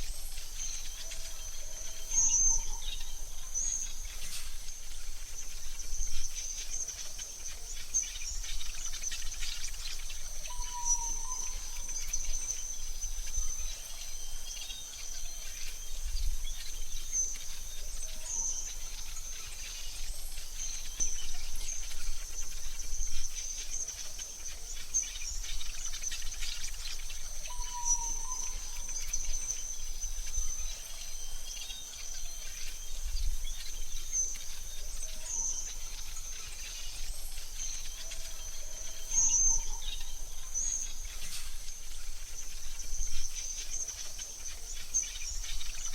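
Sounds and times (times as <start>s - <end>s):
bird chirps: 0.0s - 45.9s
insect trill: 0.0s - 45.9s.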